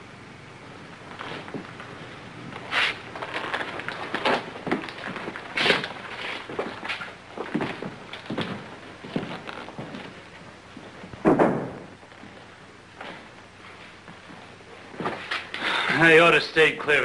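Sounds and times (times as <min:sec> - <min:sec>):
boots walking on wooden floorboards: 0:01.0 - 0:15.3.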